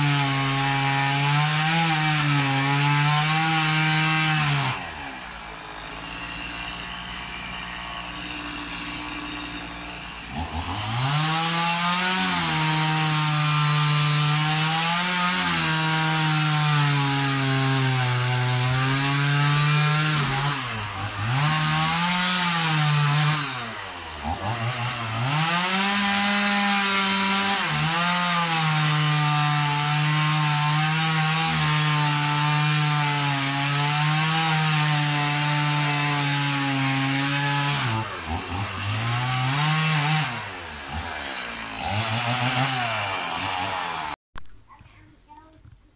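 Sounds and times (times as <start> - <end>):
chainsaw cutting wood: 0.0 - 44.5.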